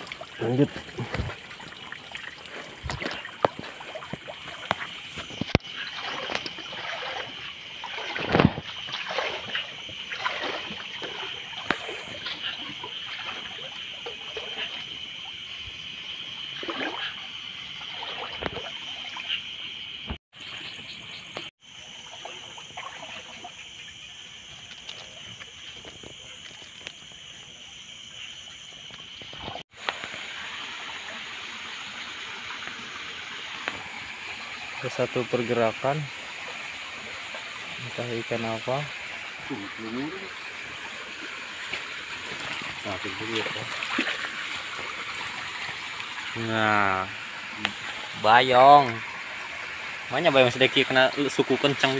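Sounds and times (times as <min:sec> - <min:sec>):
river water splashing: 0:00.0 - 0:20.7, 0:21.4 - 0:51.9.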